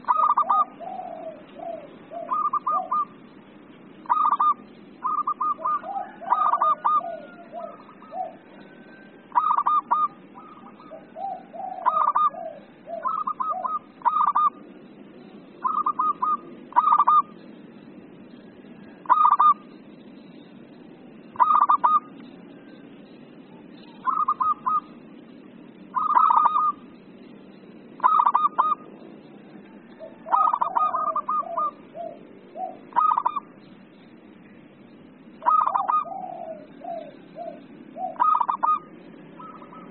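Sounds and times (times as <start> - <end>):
dove cooing: 0.0 - 20.1, 21.2 - 27.3, 27.9 - 33.7, 35.3 - 39.9.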